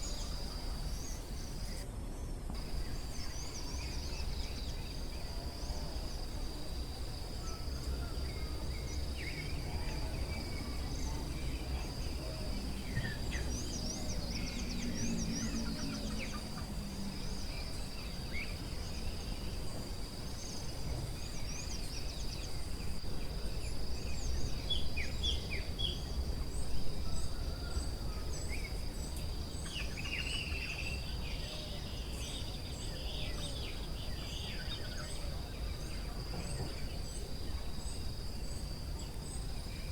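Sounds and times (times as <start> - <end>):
high insect drone: 0.0 - 1.8, 2.6 - 39.9
low background noise: 0.0 - 39.9.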